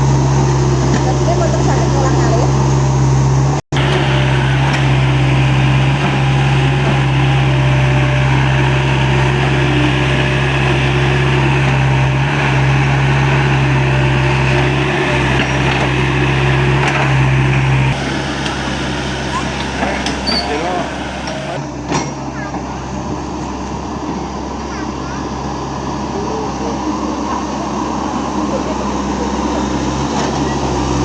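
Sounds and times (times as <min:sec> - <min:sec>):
excavator engine running: 0:00.0 - 0:31.0.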